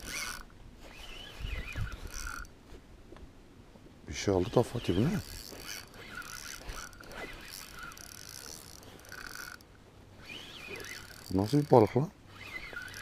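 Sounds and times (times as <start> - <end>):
fishing reel gears whirring: 0.0 - 2.6, 4.2 - 13.0.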